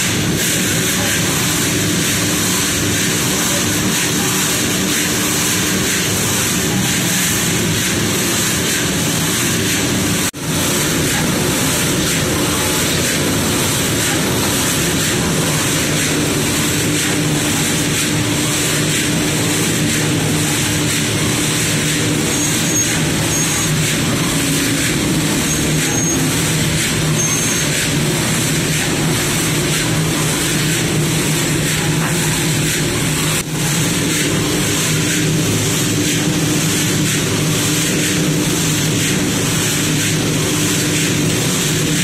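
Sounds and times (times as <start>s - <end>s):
rotating drum roaster humming: 0.0s - 42.0s.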